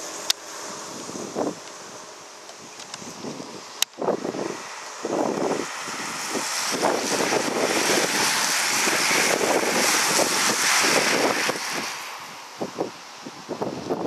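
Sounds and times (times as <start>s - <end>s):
bicycle tyres hissing on wet road: 0.0s - 14.0s
wind buffeting microphone: 0.0s - 14.0s.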